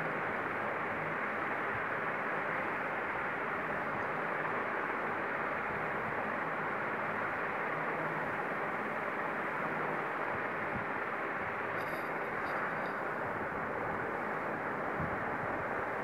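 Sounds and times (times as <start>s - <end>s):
faint low hum: 0.0s - 16.0s
steady background hiss: 0.0s - 16.0s.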